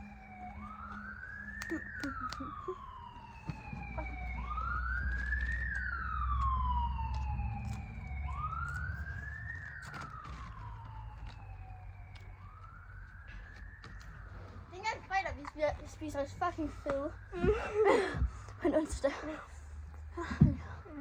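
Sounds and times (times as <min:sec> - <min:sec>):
emergency vehicle siren wailing: 0:00.0 - 0:21.0.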